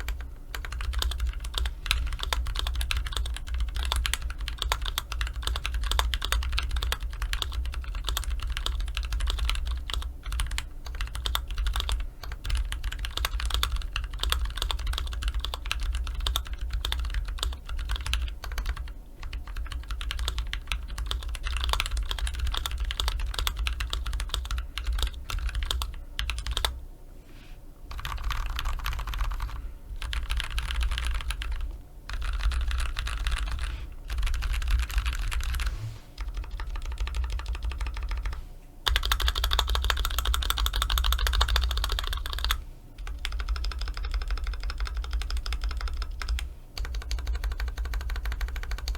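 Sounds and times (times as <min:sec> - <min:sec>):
fast typing on mechanical keyboard: 0:00.0 - 0:26.8, 0:27.9 - 0:48.9.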